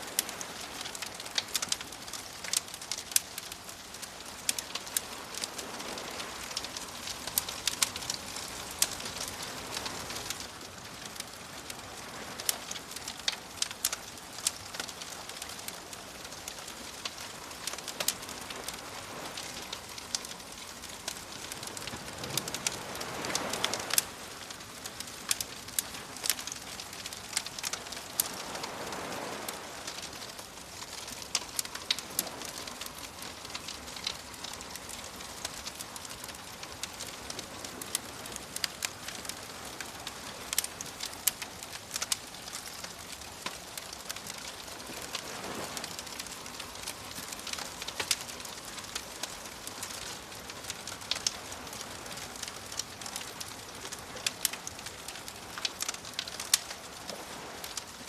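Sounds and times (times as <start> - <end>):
gentle waves: 0.0 - 58.0
wood fire crackling and popping: 0.0 - 58.0.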